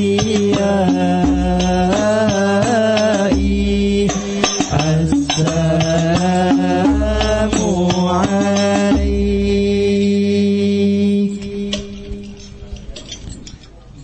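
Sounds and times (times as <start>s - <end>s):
devotional chanted singing: 0.0s - 13.1s.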